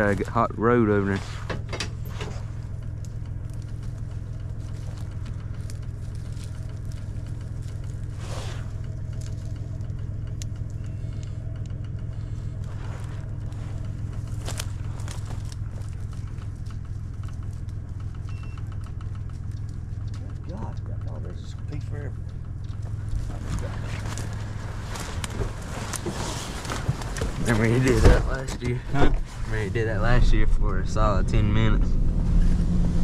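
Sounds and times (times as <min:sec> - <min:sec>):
vehicle engine droning: 0:00.0 - 0:33.0.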